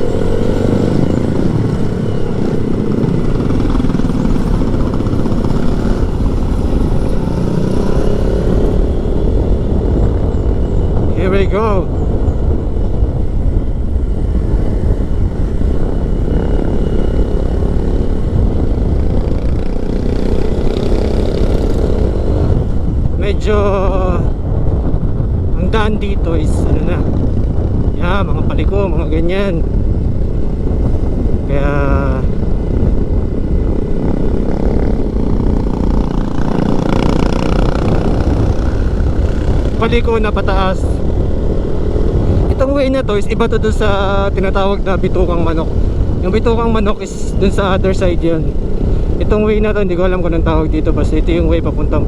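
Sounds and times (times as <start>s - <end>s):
motorcycle engine running: 0.0s - 52.0s
wind rumble on microphone: 0.0s - 52.0s.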